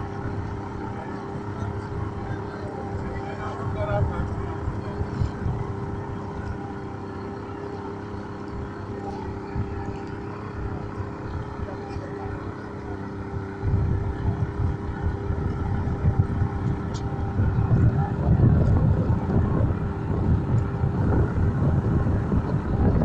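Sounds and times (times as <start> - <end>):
boat engines humming: 0.0 - 23.0
wind buffeting microphone: 0.0 - 23.0.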